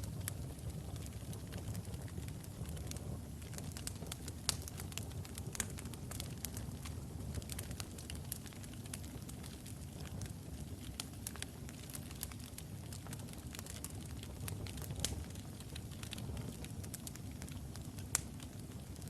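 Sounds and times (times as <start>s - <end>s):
logs burning in fireplace: 0.0s - 19.0s.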